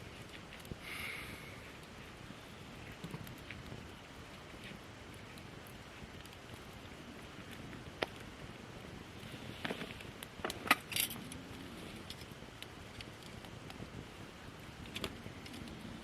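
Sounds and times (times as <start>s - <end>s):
campfire pops and snaps: 0.1s - 16.0s.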